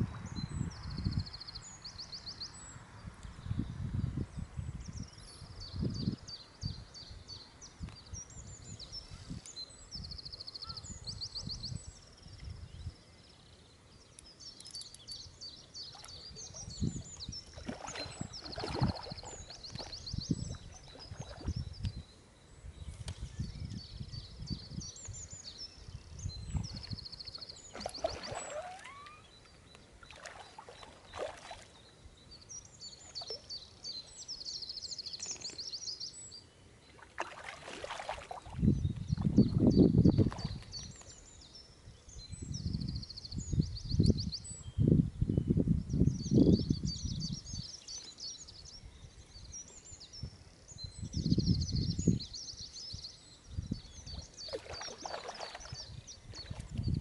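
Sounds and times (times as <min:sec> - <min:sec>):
songbirds trilling: 0:00.1 - 0:57.0.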